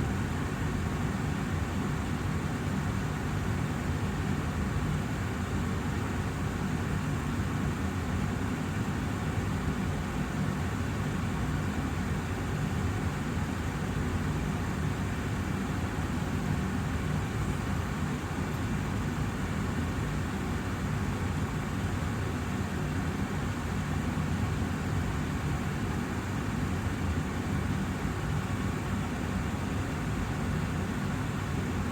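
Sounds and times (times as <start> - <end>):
air purifier fan running: 0.0 - 31.9.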